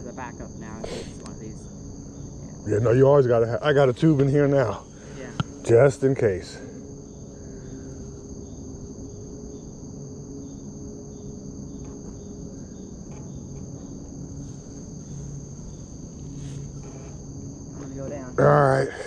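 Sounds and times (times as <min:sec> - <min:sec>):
faint low hum: 0:00.0 - 0:19.0
insects chorus: 0:00.0 - 0:19.0.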